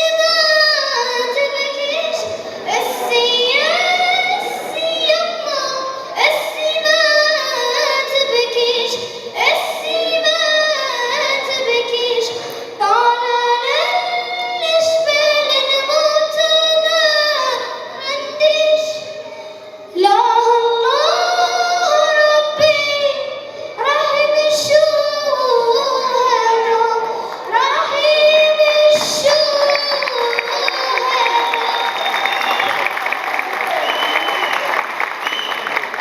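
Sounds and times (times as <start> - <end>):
girl singing: 0.0 - 19.3, 19.9 - 32.1.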